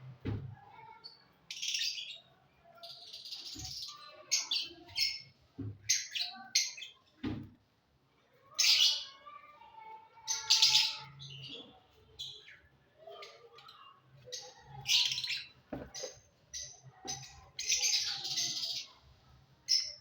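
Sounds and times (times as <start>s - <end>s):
pet birds chirping and squawking: 0.6s - 7.2s, 8.2s - 20.0s.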